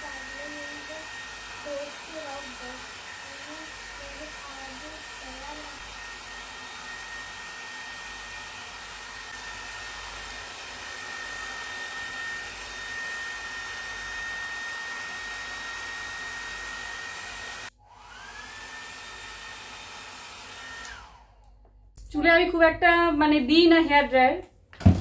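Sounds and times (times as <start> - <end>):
hair dryer blowing and whining: 0.0 - 21.8.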